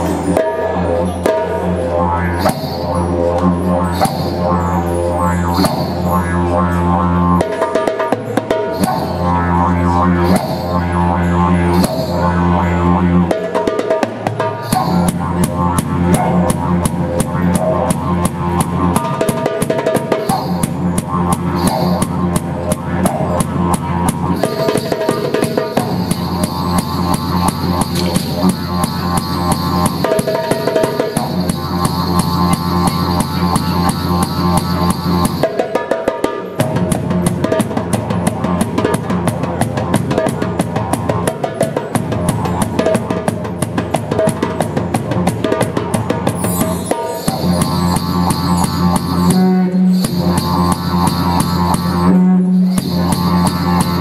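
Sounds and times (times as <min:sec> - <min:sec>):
didgeridoo droning: 0:00.0 - 0:35.6, 0:36.6 - 0:54.0
goblet drum rhythm: 0:00.0 - 0:54.0.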